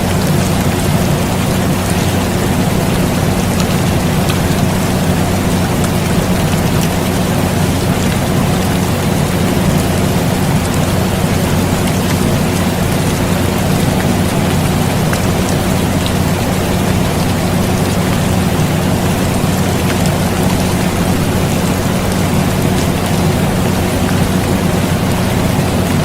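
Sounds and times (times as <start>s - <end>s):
air conditioner hum: 0.0s - 26.0s
steady rain: 0.0s - 26.0s.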